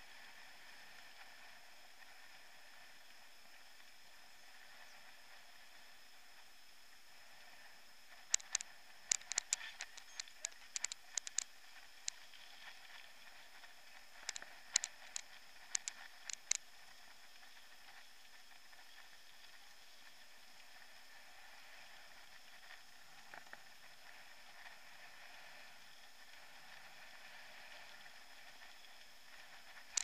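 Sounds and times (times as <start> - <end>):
faint hiss: 0.0 - 30.0.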